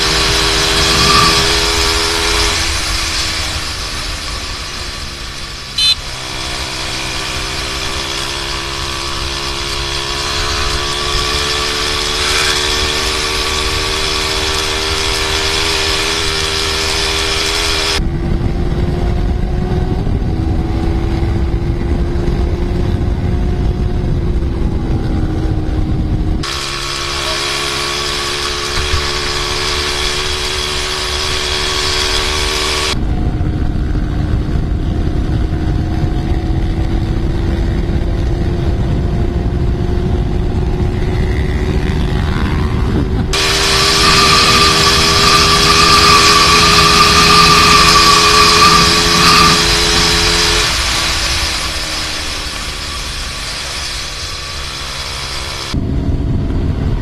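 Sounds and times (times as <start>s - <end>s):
wind noise on microphone: 0.0s - 26.8s, 27.8s - 57.0s
motorcycle engine running: 0.0s - 57.0s.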